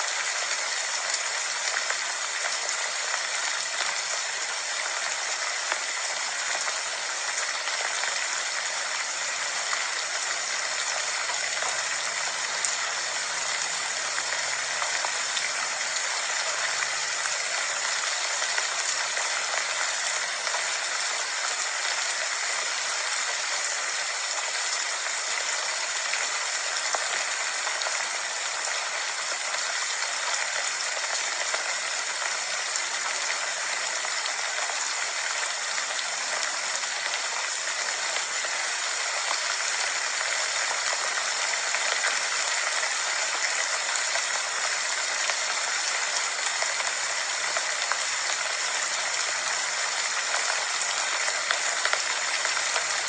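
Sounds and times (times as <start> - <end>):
rain falling steadily: 0.0 - 53.0.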